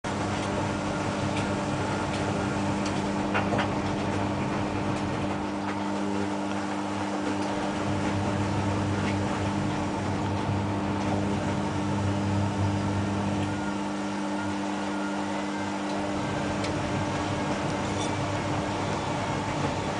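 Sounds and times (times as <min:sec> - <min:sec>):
washing machine humming: 0:00.0 - 0:19.9.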